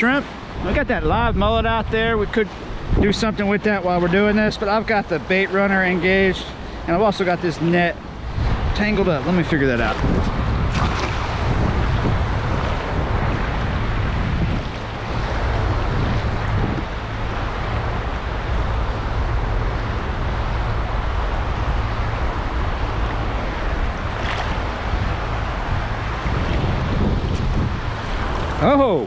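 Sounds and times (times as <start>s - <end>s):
wind noise on microphone: 0.0s - 5.1s, 7.8s - 29.0s
shallow surf washing: 0.0s - 29.0s.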